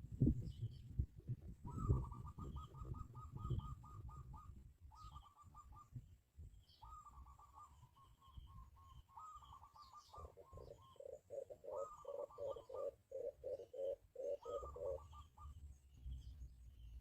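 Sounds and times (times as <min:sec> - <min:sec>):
birds calling faintly: 0:00.4 - 0:17.0
lower pulsing bird notes: 0:01.7 - 0:17.0.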